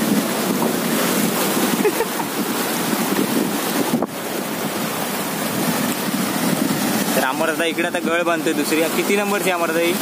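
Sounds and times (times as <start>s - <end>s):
wind buffeting microphone: 0.0s - 9.1s
surf washing against rocks: 0.0s - 10.0s.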